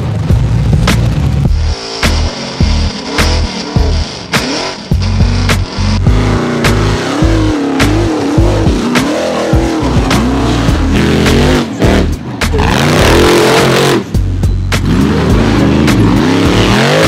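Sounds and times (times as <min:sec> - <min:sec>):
music with steady drum beat: 0:00.0 - 0:17.0
buggy engine revving hard: 0:01.1 - 0:17.0.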